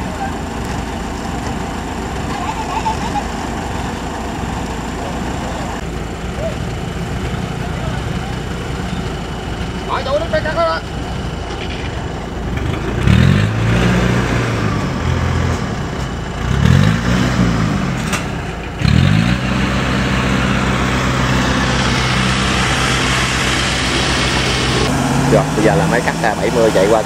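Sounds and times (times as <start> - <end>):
diesel engine revving: 0.0 - 27.0.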